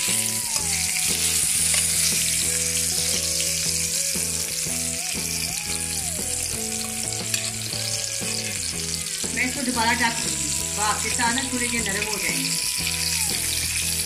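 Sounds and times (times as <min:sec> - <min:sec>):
food sizzling in oil: 0:00.0 - 0:14.0
melodic background music: 0:00.0 - 0:14.0.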